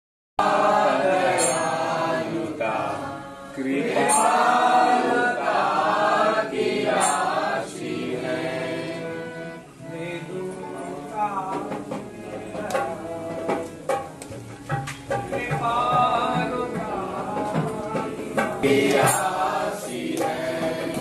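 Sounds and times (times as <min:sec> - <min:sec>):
group chanting devotional song: 0:00.4 - 0:21.0.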